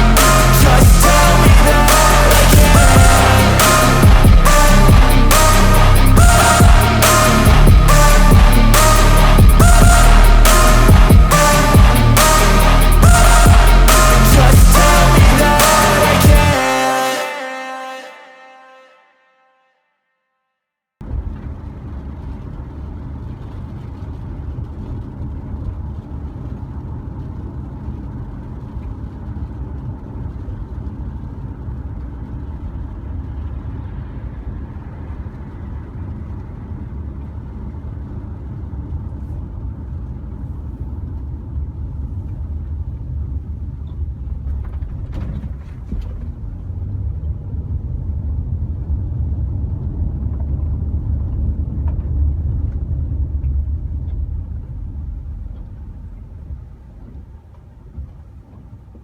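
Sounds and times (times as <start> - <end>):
low outdoor rumble: 0.0 - 16.7, 21.0 - 59.0.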